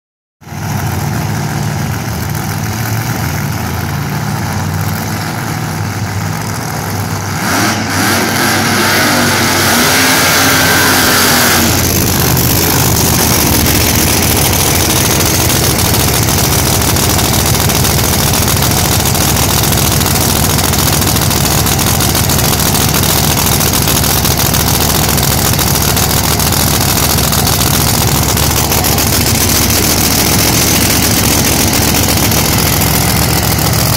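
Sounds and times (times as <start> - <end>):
drag car engine idling: 0.4 - 33.9.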